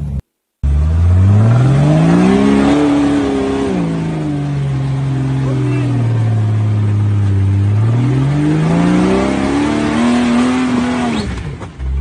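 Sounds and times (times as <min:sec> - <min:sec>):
vehicle engine revving: 0:00.6 - 0:12.0.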